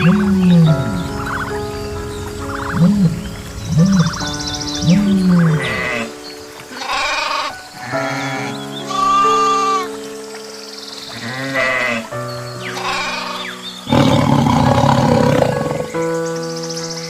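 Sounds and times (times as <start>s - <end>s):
background music with held notes: 0.0s - 17.0s.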